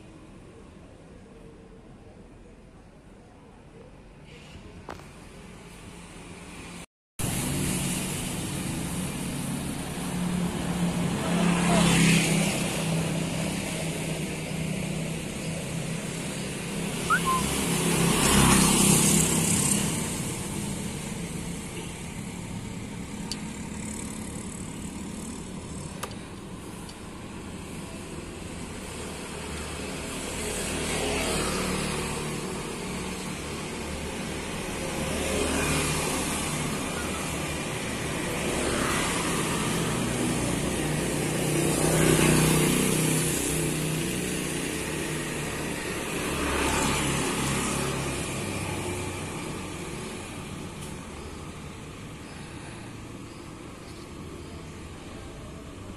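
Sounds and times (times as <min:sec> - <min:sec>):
engine hum and road noise: 0:00.0 - 0:55.9
vehicles passing: 0:00.0 - 0:55.9.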